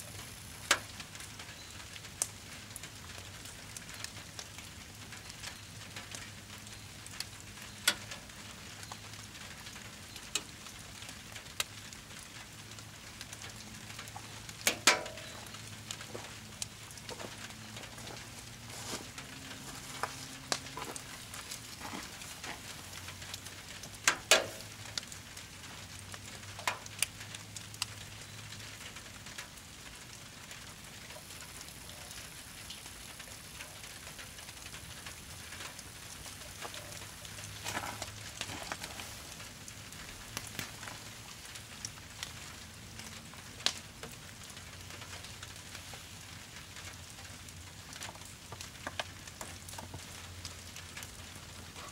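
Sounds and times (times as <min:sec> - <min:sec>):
fire crackling and popping: 0:00.0 - 0:51.9
fire hissing: 0:00.0 - 0:51.9.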